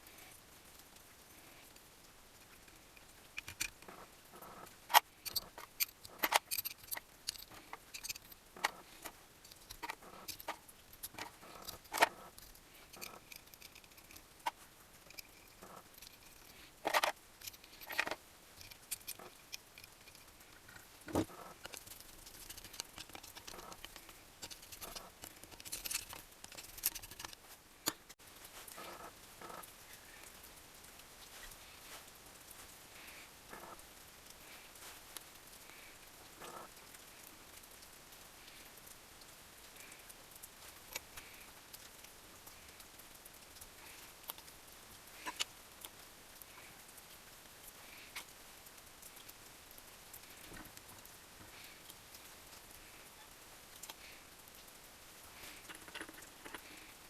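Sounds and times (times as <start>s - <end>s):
small metal parts and tools rattling: 0.0s - 37.8s, 39.6s - 49.4s, 50.0s - 57.0s.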